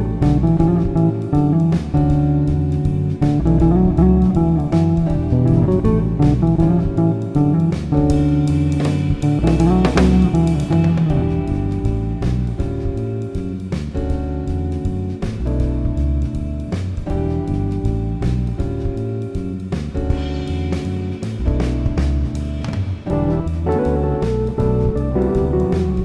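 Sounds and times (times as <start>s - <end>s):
bass line: 0.0s - 26.0s
plucked guitar music: 0.0s - 26.0s.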